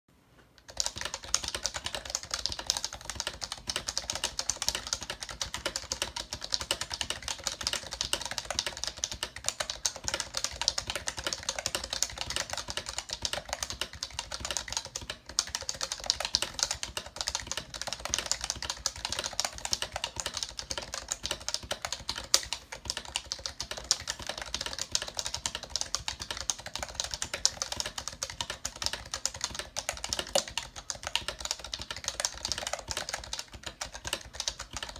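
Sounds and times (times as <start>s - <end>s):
fast typing on keyboard: 0.6s - 34.9s.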